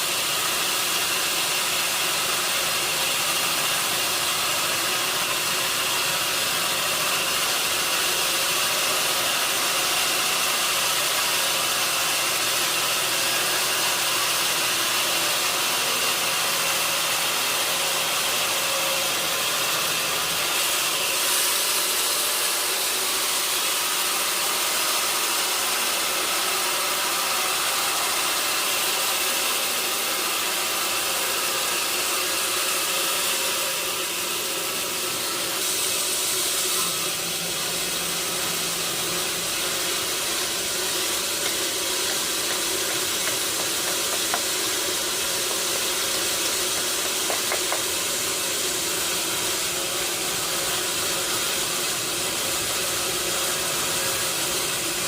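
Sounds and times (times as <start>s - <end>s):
sawmill saw and machinery running: 0.0s - 55.0s.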